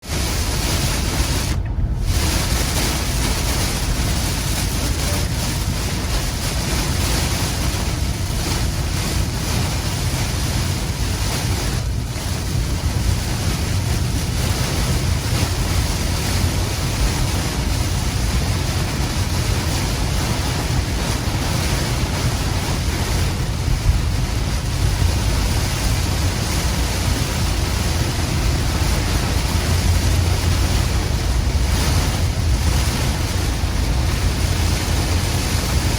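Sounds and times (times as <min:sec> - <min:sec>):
heavy rain on a car: 0:00.0 - 0:35.9
tyres on wet road rumble: 0:00.0 - 0:35.9.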